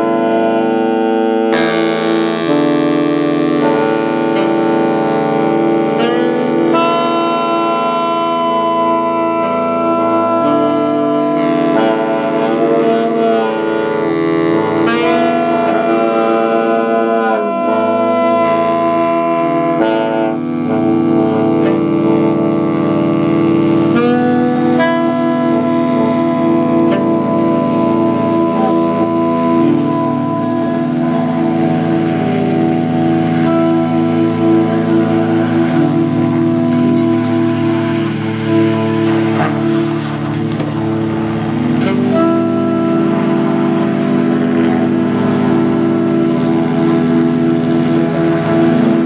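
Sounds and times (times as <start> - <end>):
saxophone ensemble holding chords: 0.0 - 49.0.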